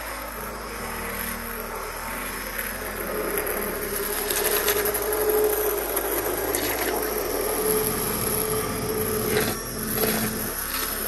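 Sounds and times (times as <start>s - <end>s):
immersion blender motor whine: 0.0s - 11.0s.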